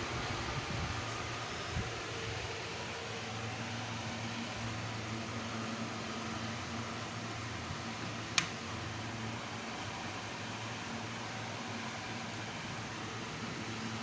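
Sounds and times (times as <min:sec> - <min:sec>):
whirring hiss with low hum: 0:00.0 - 0:14.0.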